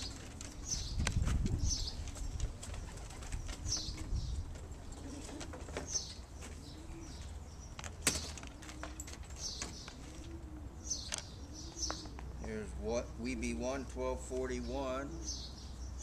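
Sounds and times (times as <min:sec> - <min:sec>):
pigeons cooing: 0:00.0 - 0:13.9, 0:14.5 - 0:16.0.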